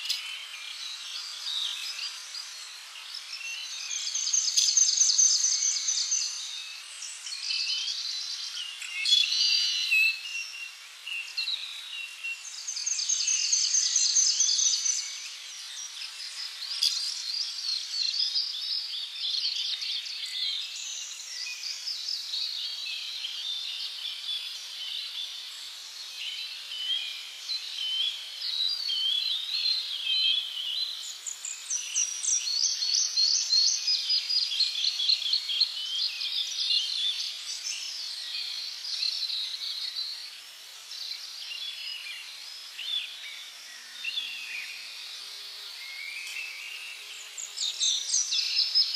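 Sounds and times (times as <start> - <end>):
birds chirping and trilling: 0.0 - 48.9
faint hiss: 0.0 - 48.9.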